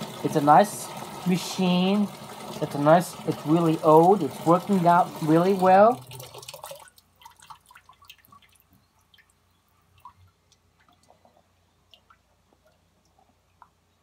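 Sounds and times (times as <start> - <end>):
water dripping: 0.0 - 14.0.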